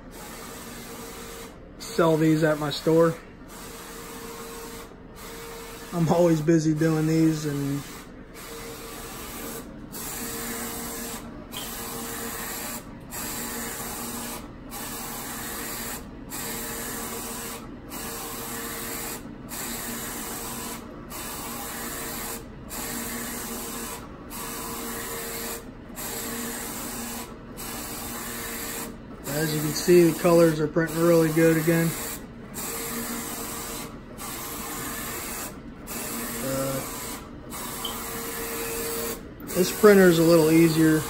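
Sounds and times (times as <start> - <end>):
printer carriage motor whine: 0.0 - 41.0.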